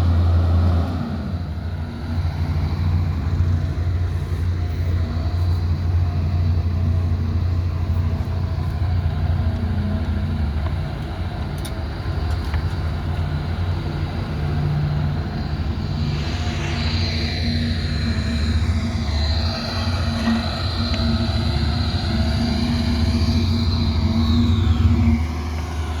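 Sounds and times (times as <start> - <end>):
diesel engine low drone: 0.0 - 26.0.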